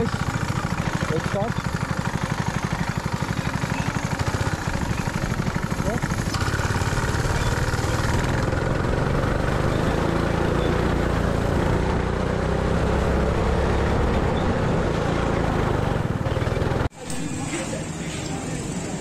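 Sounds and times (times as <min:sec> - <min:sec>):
go-kart engine running: 0:00.0 - 0:19.0.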